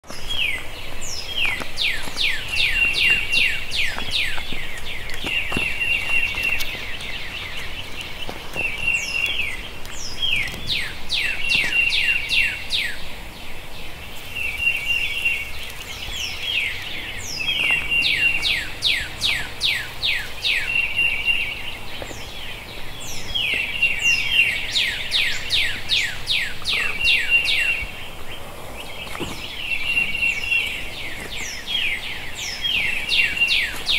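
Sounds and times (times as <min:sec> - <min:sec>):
birds whistling and trilling: 0:00.0 - 0:33.9.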